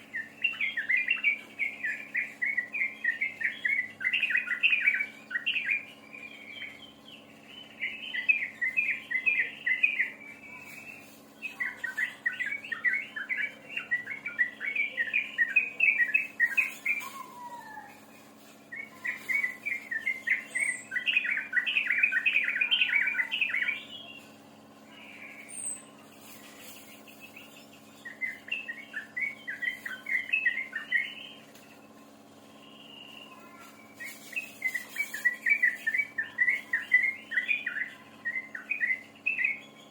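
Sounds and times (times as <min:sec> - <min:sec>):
songbird chattering song: 0:00.0 - 0:39.9
steady low hum: 0:00.0 - 0:39.9.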